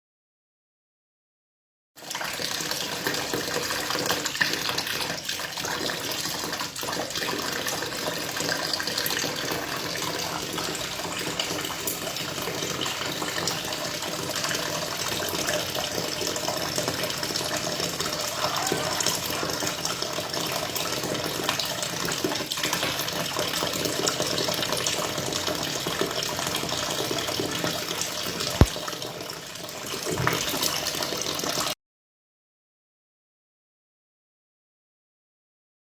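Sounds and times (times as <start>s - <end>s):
water filling washing machine: 2.0s - 31.8s.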